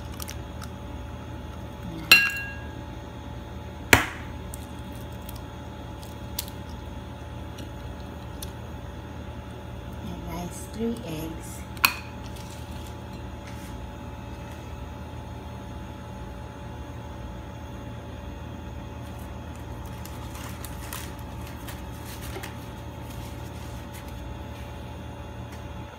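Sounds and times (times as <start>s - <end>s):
low machine hum: 0.0s - 25.9s.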